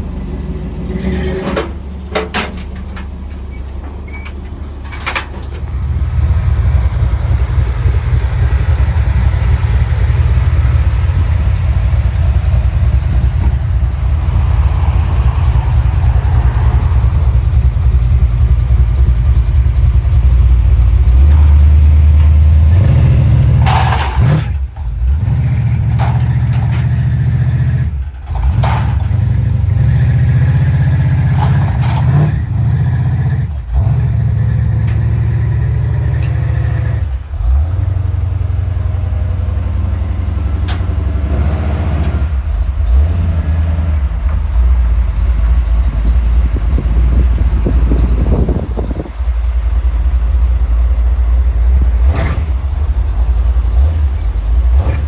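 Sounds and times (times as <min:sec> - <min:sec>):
car engine exhaust rumble: 0:00.0 - 0:55.0.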